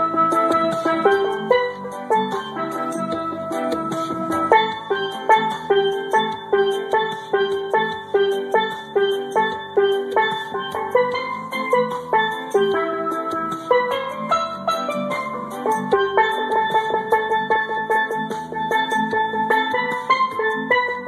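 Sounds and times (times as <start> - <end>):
steel pan melody: 0.0 - 21.0.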